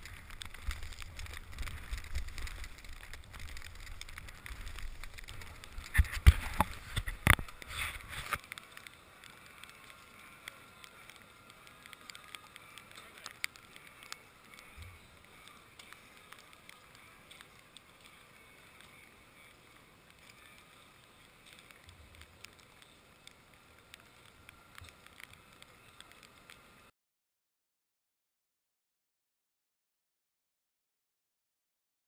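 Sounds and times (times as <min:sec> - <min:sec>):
skis scraping over wet snow: 0:00.0 - 0:26.6
fire popping: 0:00.0 - 0:26.9.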